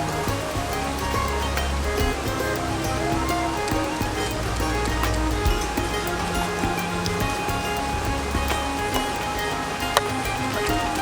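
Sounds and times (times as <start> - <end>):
background music with held notes: 0.0 - 11.0
stream water rushing: 0.0 - 11.0.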